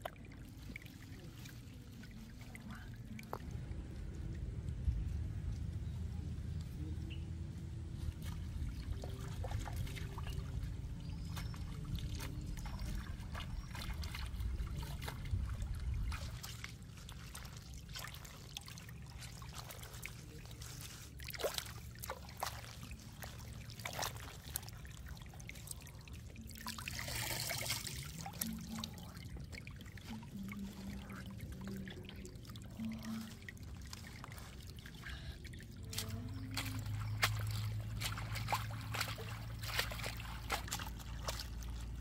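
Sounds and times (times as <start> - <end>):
stream water trickling: 0.0 - 42.0
lettuce leaves splashing in water: 8.2 - 42.0.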